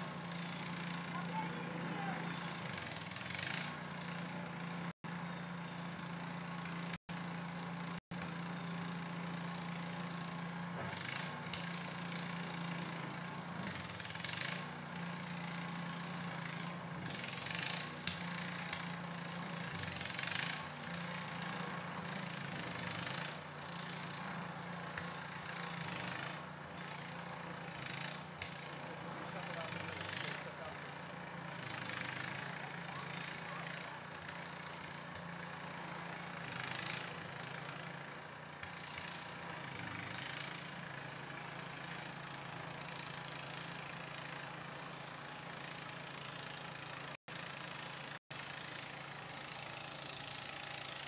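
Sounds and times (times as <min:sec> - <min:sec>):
engine humming: 0:00.0 - 0:51.0.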